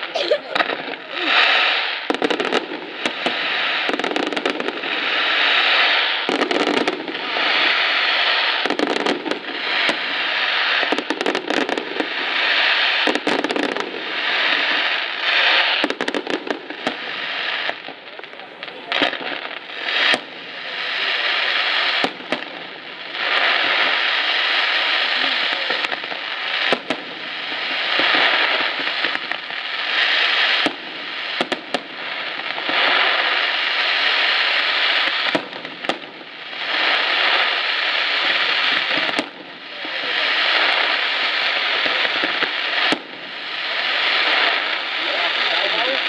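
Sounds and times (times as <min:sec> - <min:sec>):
fireworks hissing and crackling: 0:00.0 - 0:46.0.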